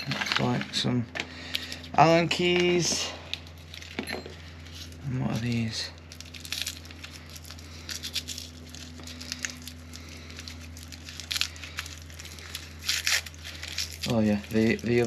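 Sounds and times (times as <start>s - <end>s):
plastic bag crinkling: 0.0s - 15.0s
steady low hum: 0.0s - 15.0s.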